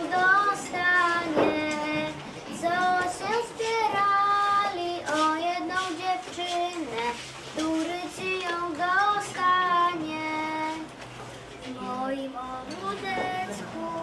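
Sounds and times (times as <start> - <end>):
girls singing unaccompanied: 0.0 - 14.0.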